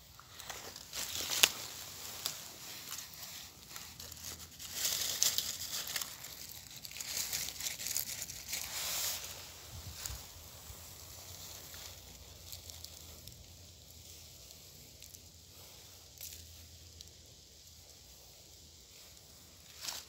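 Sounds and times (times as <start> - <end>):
dry leaves rustling and crackling: 0.0 - 20.0.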